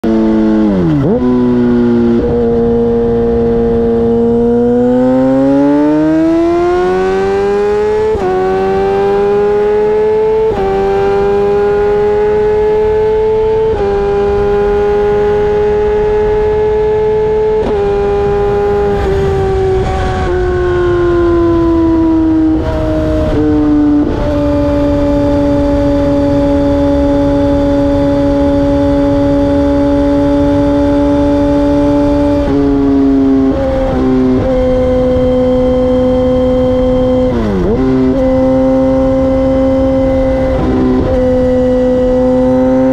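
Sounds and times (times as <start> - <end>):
motorcycle engine under way: 0.0 - 42.9.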